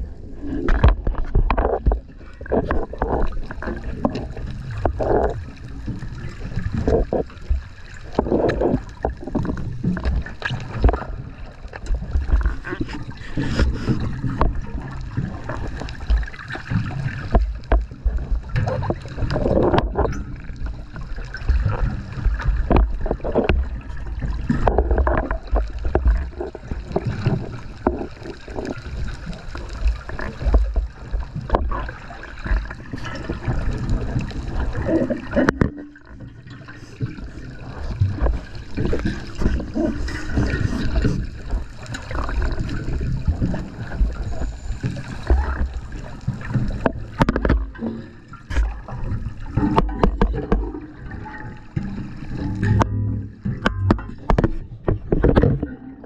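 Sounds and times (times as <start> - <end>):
low rumble of water: 0.0 - 56.0
regulator bubbles gurgling: 0.0 - 56.0.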